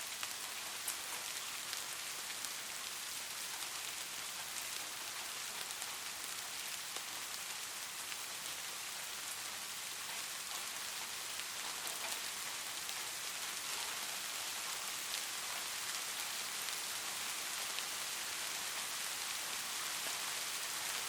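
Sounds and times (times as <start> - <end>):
light rain falling: 0.0 - 21.0.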